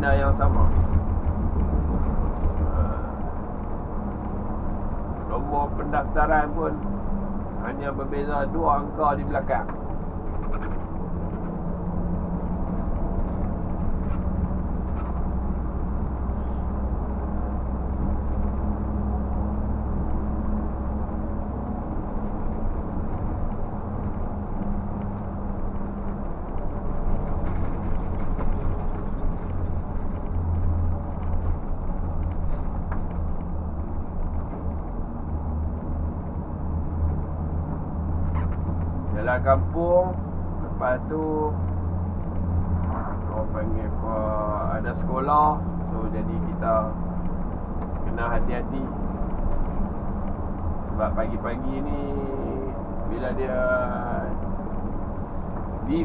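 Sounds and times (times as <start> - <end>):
bus diesel engine running: 0.0 - 56.0
road rumble: 0.0 - 56.0.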